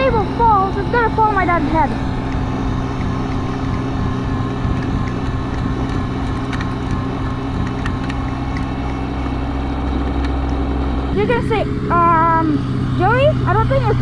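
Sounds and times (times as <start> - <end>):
diesel tractor engine droning: 0.0 - 14.0.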